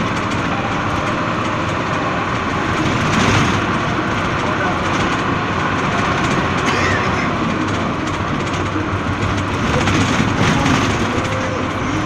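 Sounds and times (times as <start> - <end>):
bus engine hum: 0.0 - 12.0
road and wind noise: 0.0 - 12.0.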